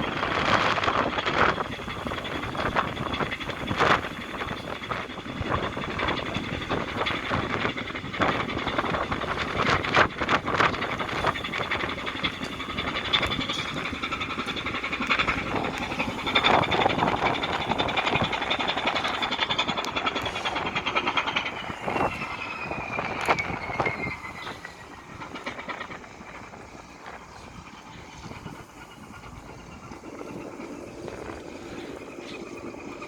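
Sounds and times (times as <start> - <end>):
high engine whine: 0.0 - 33.0
ship engine running: 0.0 - 33.0
wind buffeting microphone: 0.0 - 33.0.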